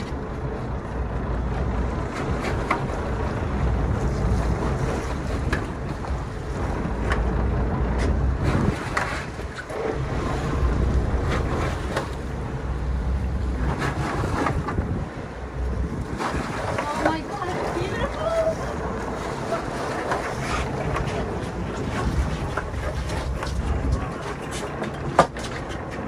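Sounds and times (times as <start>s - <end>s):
boat engine rumbling: 0.0s - 26.0s
wind buffeting microphone: 0.0s - 26.0s.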